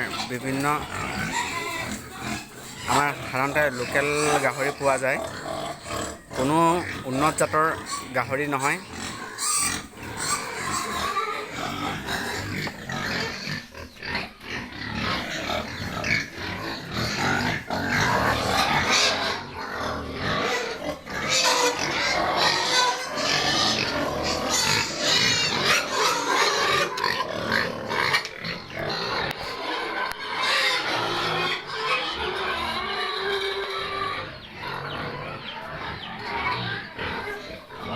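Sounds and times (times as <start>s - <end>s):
pigs squealing and grunting: 0.0s - 37.9s.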